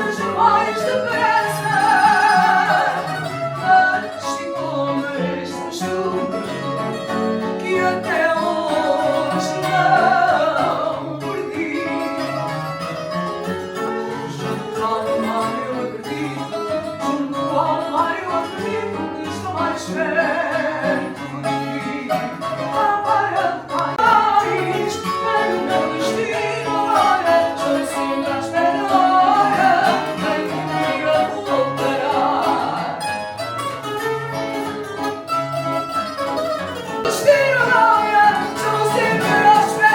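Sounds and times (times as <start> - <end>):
plucked guitars playing: 0.0 - 39.9.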